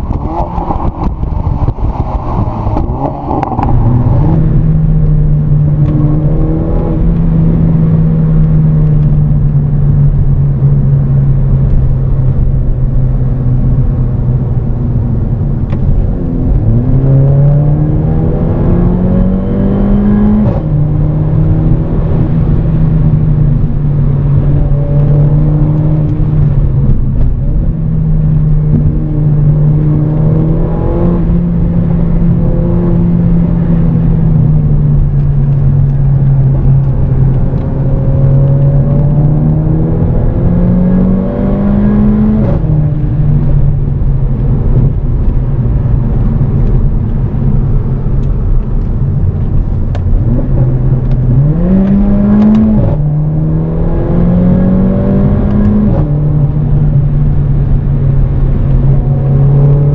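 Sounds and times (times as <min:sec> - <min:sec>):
car engine and exhaust: 0:00.0 - 0:59.9
road noise: 0:00.0 - 0:59.9.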